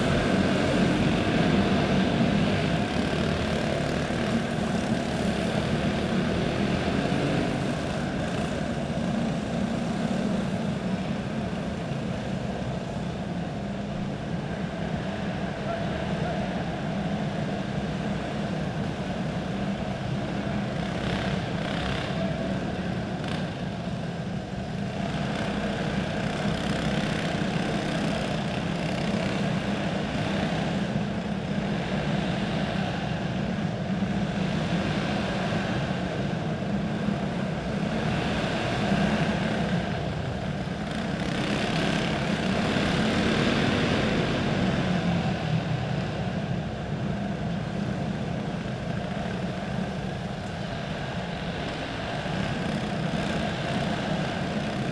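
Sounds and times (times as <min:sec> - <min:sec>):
racing kart engines buzzing: 0:00.0 - 0:54.9.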